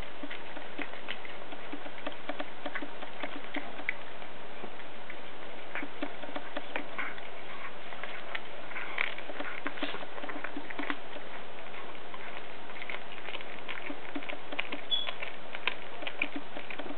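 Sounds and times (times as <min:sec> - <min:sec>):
cat chewing raw meat and bone: 0:00.0 - 0:16.9.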